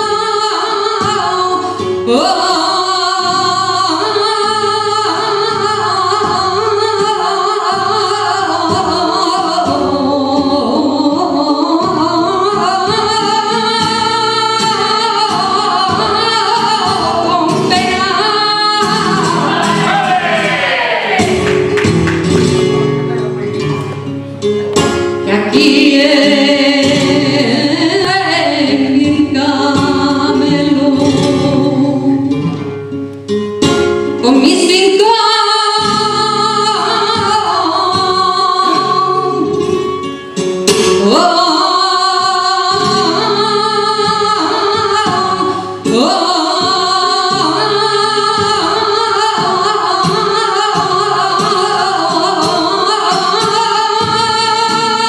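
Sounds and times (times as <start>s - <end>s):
woman singing flamenco: 0.0s - 20.0s, 23.6s - 55.0s
flamenco guitar: 0.0s - 55.0s.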